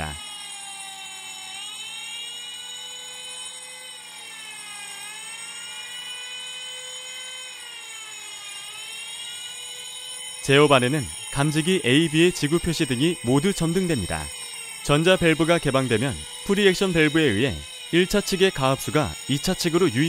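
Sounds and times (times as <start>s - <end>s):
electronic alarm siren wailing: 0.0s - 20.0s.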